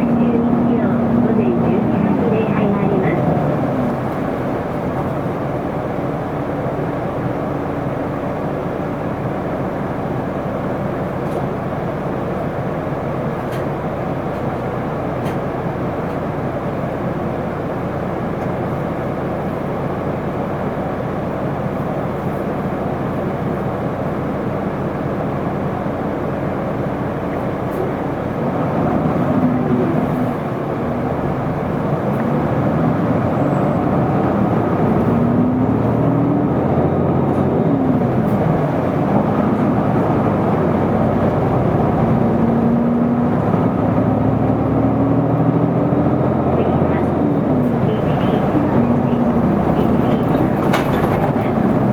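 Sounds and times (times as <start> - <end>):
bus accelerating: 0.0 - 51.9
bus diesel engine running: 0.0 - 51.9.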